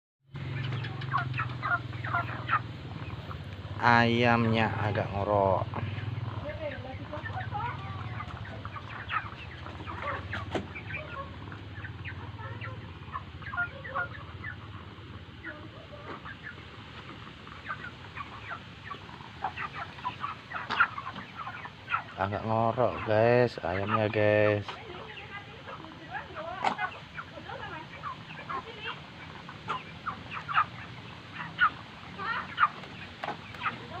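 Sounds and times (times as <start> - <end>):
chickens chirping and clucking: 0.4 - 34.0.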